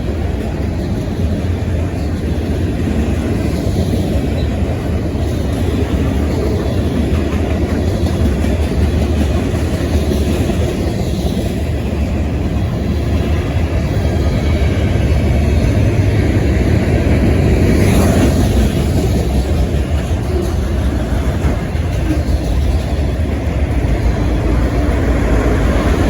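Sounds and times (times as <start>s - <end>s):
train passing with low rumble: 0.0s - 26.0s.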